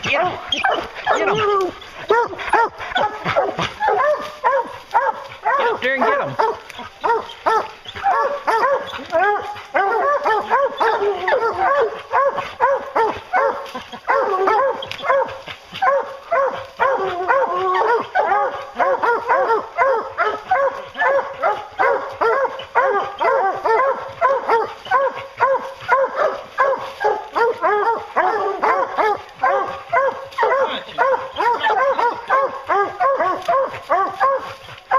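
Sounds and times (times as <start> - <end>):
hounds baying and barking: 0.0 - 34.9.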